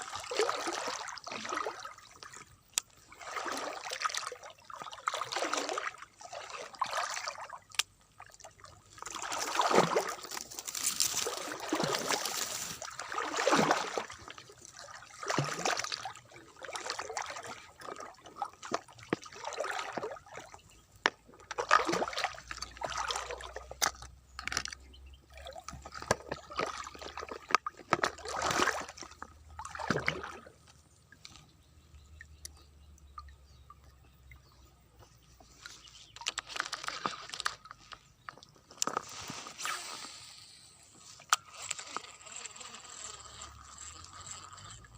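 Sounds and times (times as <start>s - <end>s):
water sloshing and splashing: 0.0s - 39.7s.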